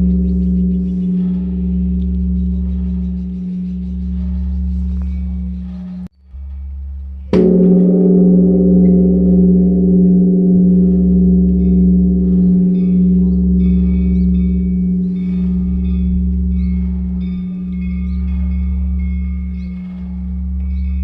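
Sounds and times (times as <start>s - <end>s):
large temple bell ringing: 0.0s - 21.0s.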